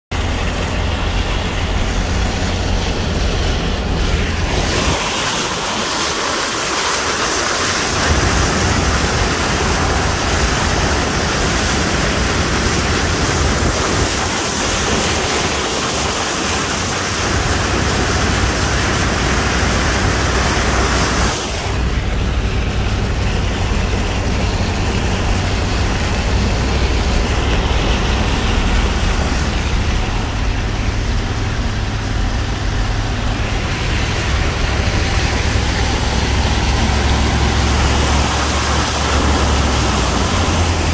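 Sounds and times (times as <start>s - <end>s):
truck engine drone: 0.1s - 40.9s
water spraying off tyres: 0.1s - 40.9s.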